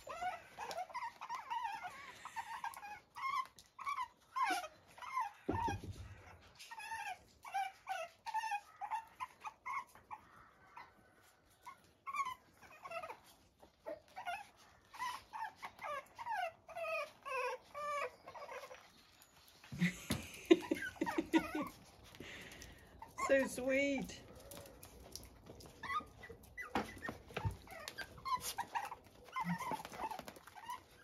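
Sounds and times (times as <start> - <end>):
puppies whimpering: 0.0 - 31.0.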